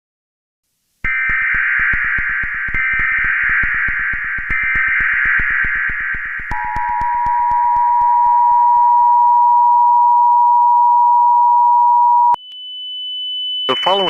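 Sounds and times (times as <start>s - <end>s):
emergency alert data tones: 1.1s - 14.0s.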